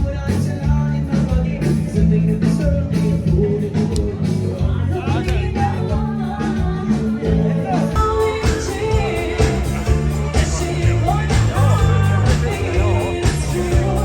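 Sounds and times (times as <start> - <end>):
live band playing: 0.0 - 14.0
person singing: 0.0 - 14.0.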